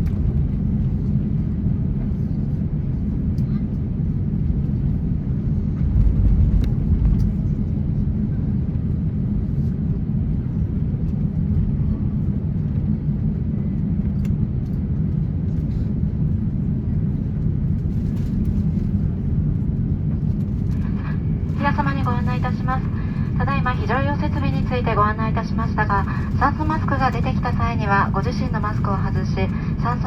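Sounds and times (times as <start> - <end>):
aircraft cabin low rumble: 0.0 - 30.0.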